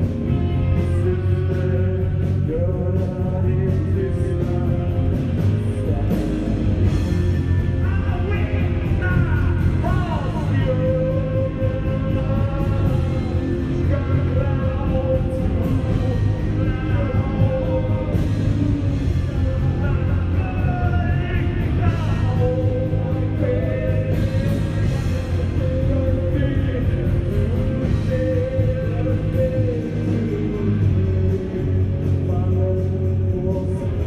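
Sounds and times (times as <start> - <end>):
drums: 0.0 - 34.0
electric guitars: 0.0 - 34.0
person singing: 0.0 - 34.0.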